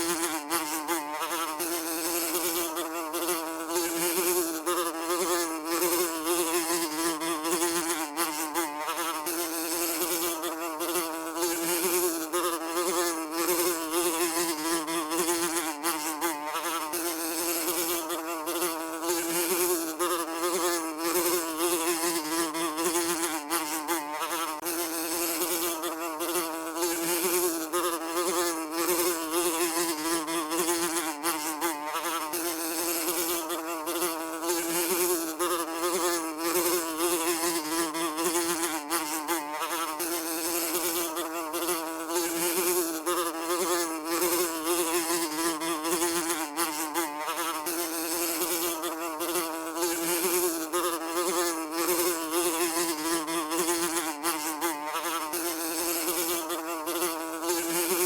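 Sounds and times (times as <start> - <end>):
fly buzzing: 0.0 - 58.0.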